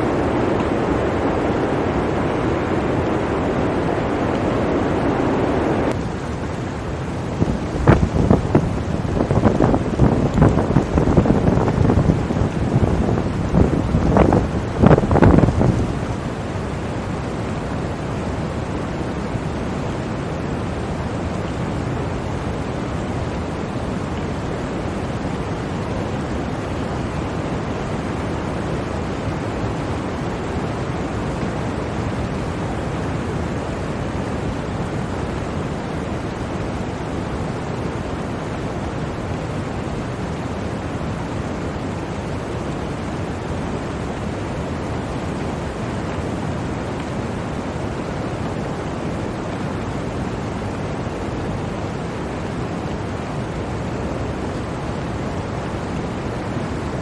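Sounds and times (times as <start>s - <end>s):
blizzard wind rushing: 0.0s - 57.0s.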